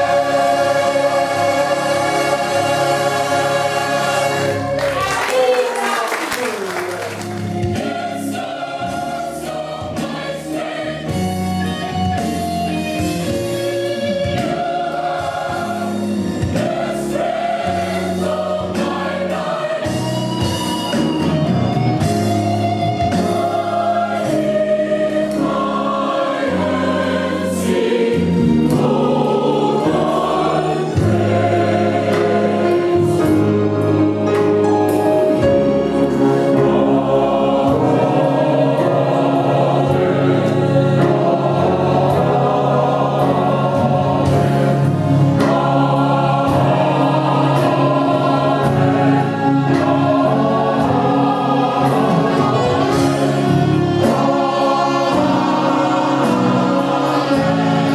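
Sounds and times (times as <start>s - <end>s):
gospel choir singing: 0.0s - 57.9s
drum kit and bass guitar: 7.4s - 57.9s.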